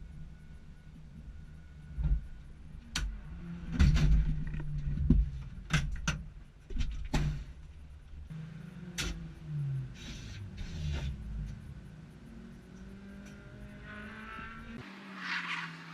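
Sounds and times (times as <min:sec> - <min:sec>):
car road and engine rumble: 0:00.0 - 0:15.9.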